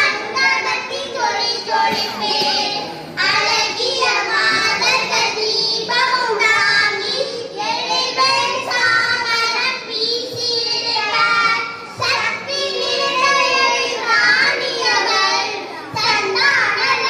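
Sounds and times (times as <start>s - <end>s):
girls singing into microphones: 0.0s - 17.0s.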